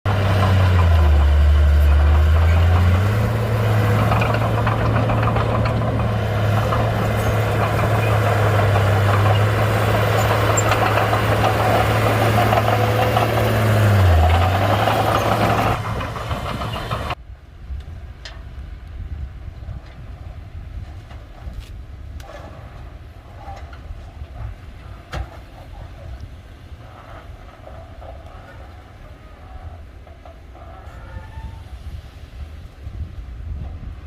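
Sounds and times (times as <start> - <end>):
bulldozer diesel engine clattering: 0.0 - 17.2, 20.7 - 34.0.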